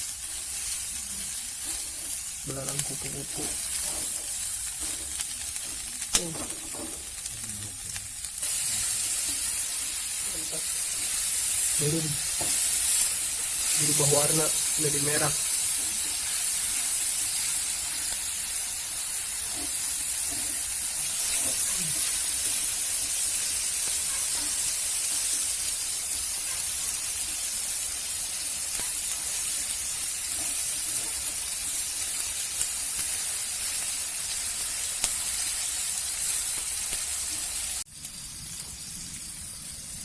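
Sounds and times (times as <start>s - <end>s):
insects sizzling in a wok: 0.0s - 40.0s.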